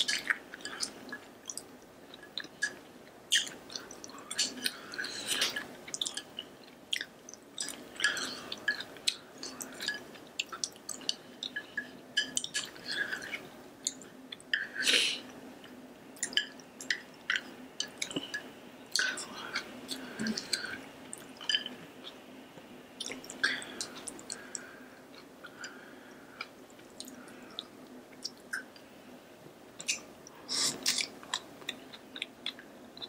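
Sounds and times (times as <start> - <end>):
person chewing food: 0.0 - 14.8, 15.6 - 22.2, 23.0 - 28.8, 29.8 - 33.0.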